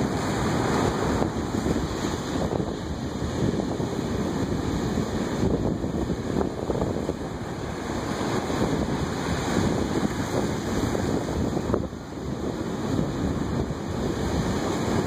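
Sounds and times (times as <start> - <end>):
ocean surf breaking over rocks: 0.0 - 15.0.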